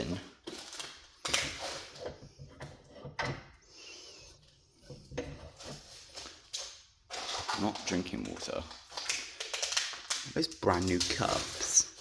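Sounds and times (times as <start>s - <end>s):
scraping and rubbing: 0.5s - 9.8s, 10.7s - 12.0s.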